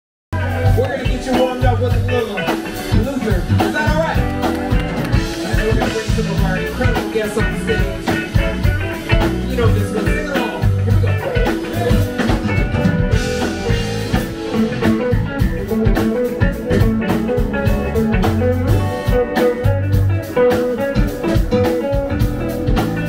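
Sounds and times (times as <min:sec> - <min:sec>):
bass: 0:00.3 - 0:23.0
drum kit steady beat: 0:00.3 - 0:23.0
keyboard: 0:00.3 - 0:23.0
electric guitar lead: 0:00.4 - 0:23.0.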